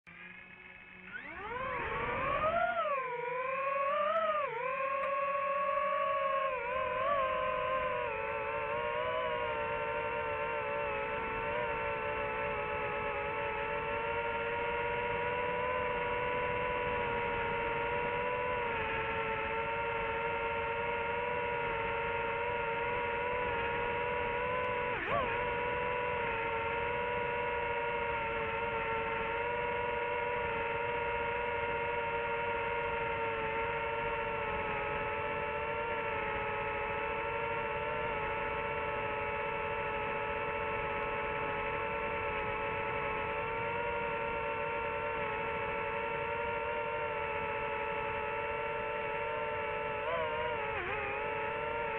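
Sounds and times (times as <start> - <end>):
drone motors whining: 0.1 - 51.9.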